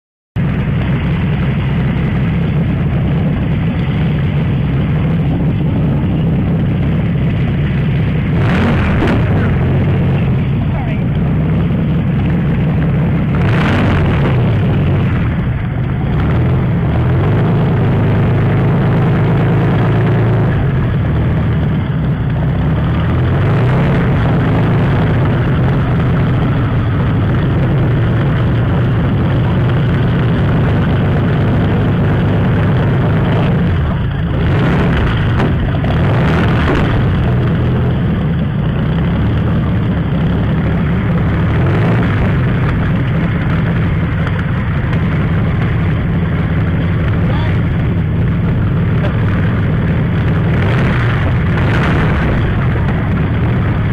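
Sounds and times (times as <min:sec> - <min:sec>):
deep piston engine rumbling: 0:00.4 - 0:53.9.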